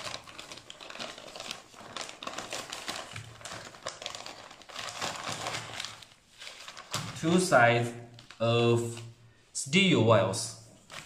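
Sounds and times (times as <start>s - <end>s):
plastic bag crinkling: 0.0s - 9.2s, 10.8s - 11.0s.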